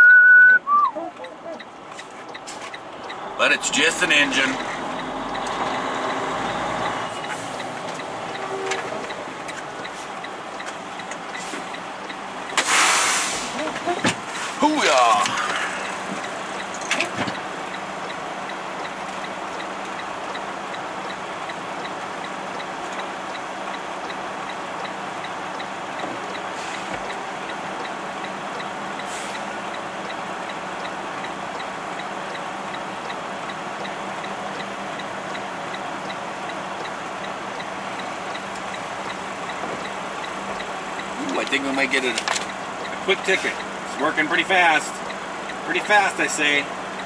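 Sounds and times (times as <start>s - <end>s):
diesel engine idling: 0.0s - 47.0s
faint fast regular ticking: 6.8s - 12.6s, 14.9s - 47.0s.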